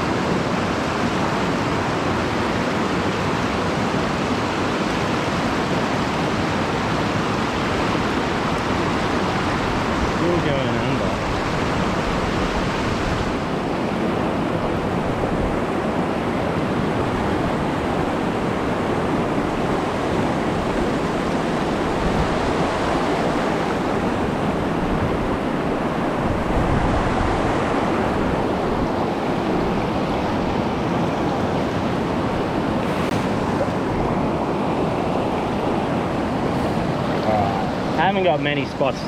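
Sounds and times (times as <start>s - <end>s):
stream water rushing: 0.0s - 39.0s.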